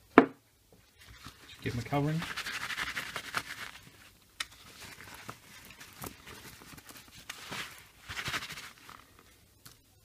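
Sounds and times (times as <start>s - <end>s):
paper towel rustling: 0.9s - 9.4s.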